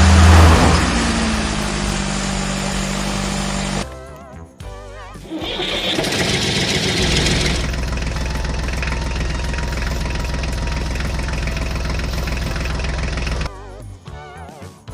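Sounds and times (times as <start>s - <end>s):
engine starting and idling: 0.0s - 3.8s, 5.2s - 13.5s.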